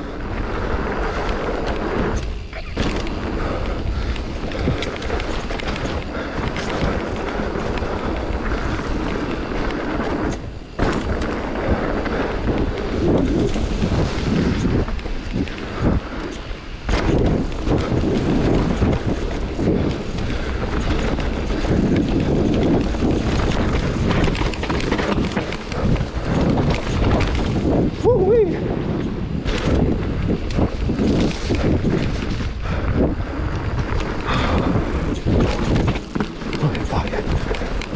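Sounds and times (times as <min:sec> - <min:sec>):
bike bumps and rattles: 0:00.0 - 0:37.9
wind buffeting microphone: 0:00.0 - 0:37.9.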